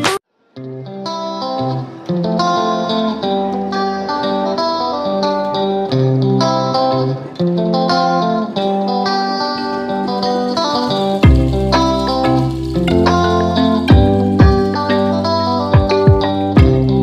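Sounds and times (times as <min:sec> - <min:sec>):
plucked guitar instrumental: 0:00.0 - 0:17.0.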